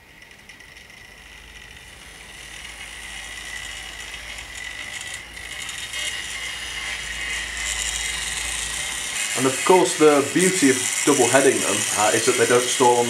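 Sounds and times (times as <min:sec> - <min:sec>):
model train motor whine: 0:00.0 - 0:13.0
wheels clicking on track: 0:00.0 - 0:13.0.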